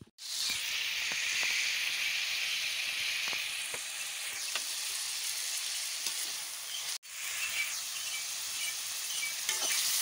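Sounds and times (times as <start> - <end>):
oil popping and crackling: 0.0 - 10.0
meat sizzling in hot oil: 0.2 - 10.0.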